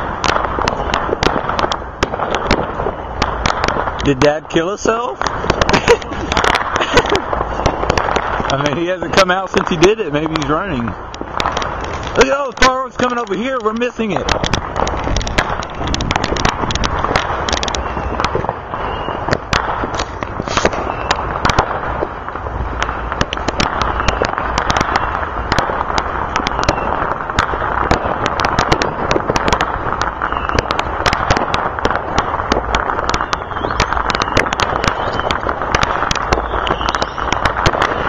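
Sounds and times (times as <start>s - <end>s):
firecracker pops and bangs: 0.0s - 38.0s
fireworks crackling: 0.0s - 38.0s.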